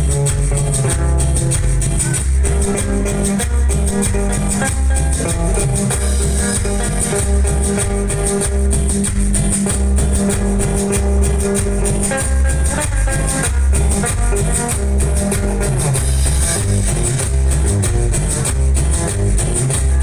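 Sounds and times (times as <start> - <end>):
tropical dance music: 0.0 - 20.0.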